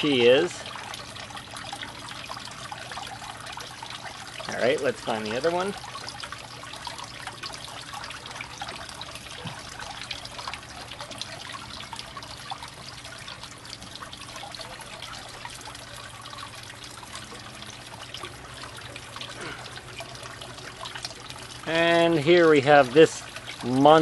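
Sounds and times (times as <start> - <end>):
water trickling into pond: 0.0 - 24.0.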